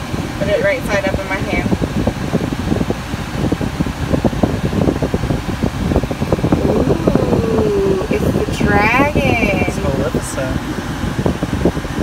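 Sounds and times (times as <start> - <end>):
air-conditioning fan blowing: 0.0 - 12.0.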